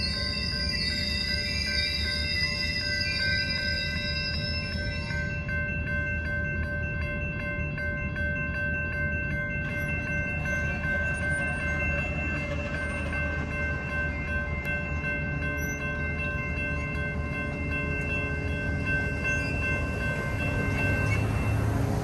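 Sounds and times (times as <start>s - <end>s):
crossing warning bells dinging: 0.0s - 22.0s.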